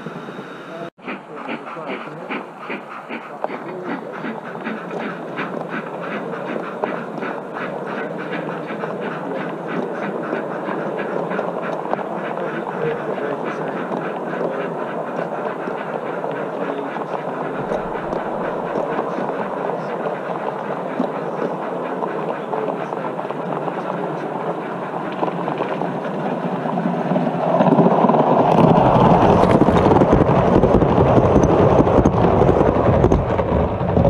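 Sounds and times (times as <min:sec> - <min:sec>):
model train rolling rumble: 0:00.0 - 0:34.0
wheels clicking over rail joints: 0:02.1 - 0:34.0.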